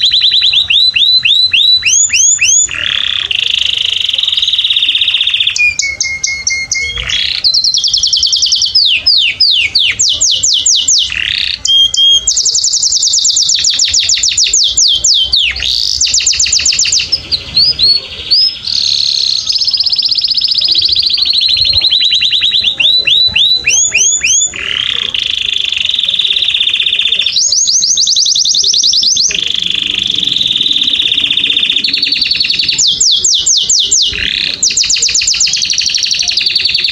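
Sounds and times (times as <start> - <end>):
canary singing trills: 0.0 - 36.9.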